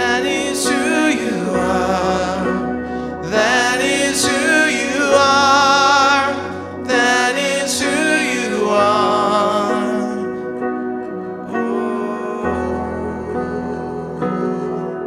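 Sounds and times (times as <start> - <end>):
held instrumental chords: 0.0 - 15.0
person singing with vibrato: 0.0 - 15.0.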